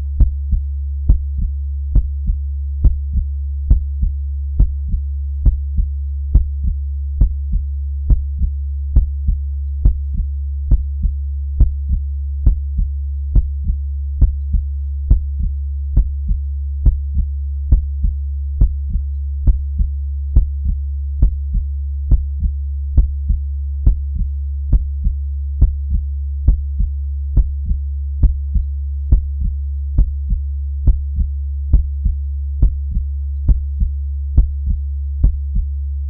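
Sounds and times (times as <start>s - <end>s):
continuous low hum: 0.0s - 36.0s
heartbeat lub-dub: 0.0s - 36.0s.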